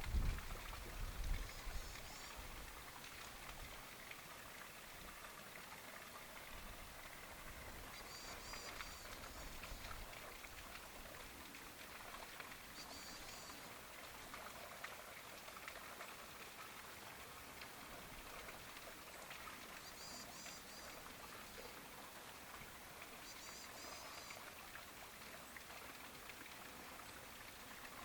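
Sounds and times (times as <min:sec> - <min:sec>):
faint rain pattering: 0:00.0 - 0:28.0.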